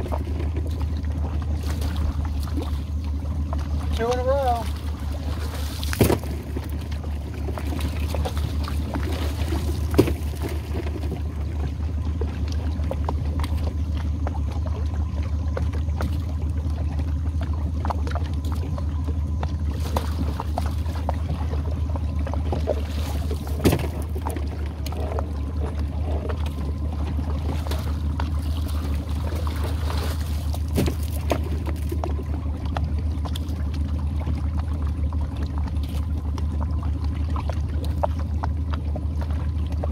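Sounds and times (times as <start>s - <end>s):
boat engine idling: 0.0s - 39.9s
water trickling and splashing: 0.0s - 39.9s.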